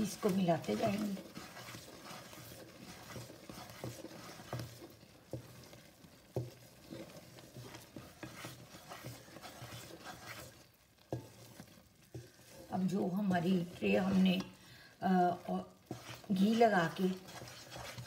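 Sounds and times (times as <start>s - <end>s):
spatula scraping thick mixture: 0.0s - 18.0s
spatula tapping metal pot: 0.0s - 18.0s.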